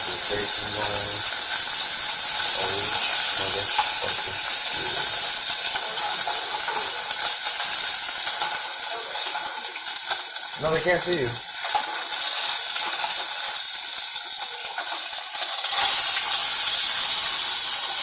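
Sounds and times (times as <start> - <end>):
bacon sizzling in a frying pan: 0.0 - 18.0.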